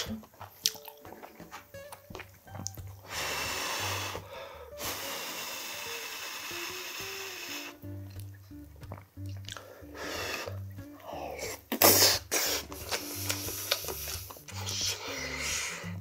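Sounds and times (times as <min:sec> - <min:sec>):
background music: 0:00.0 - 0:16.0
person blowing on food: 0:01.4 - 0:16.0.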